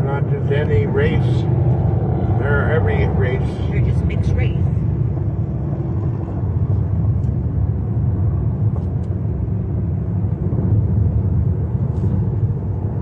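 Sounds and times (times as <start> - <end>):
car driving at freeway speed: 0.0 - 13.0.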